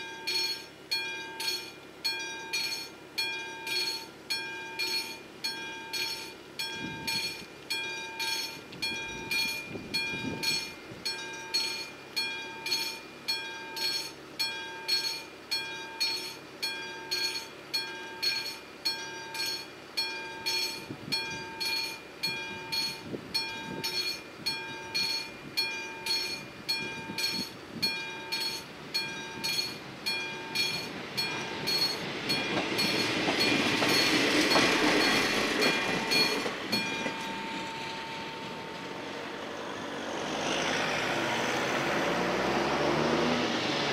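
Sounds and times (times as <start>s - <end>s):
mechanical warning bell ringing: 0.0s - 38.9s
diesel railcar approaching: 0.0s - 43.9s.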